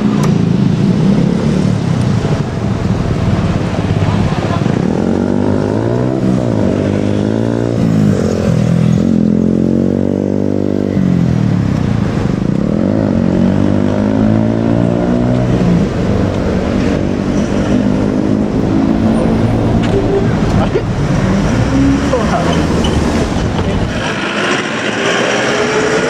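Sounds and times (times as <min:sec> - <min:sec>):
vehicle motor running: 0:00.0 - 0:26.0.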